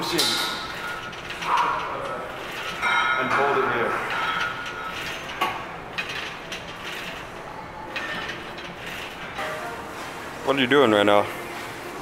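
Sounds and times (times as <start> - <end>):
exercise machine cable and pulleys: 0.0 - 12.0.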